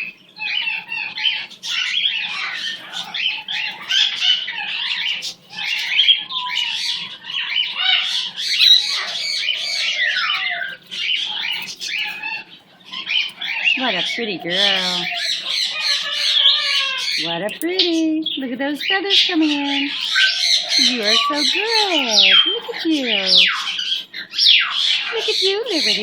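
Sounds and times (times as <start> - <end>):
bird chirps and squawks: 0.0 - 26.0.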